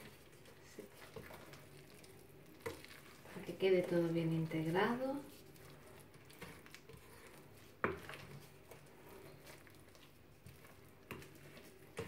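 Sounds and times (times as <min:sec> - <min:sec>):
spoon scraping batter in bowl: 0:00.0 - 0:12.0.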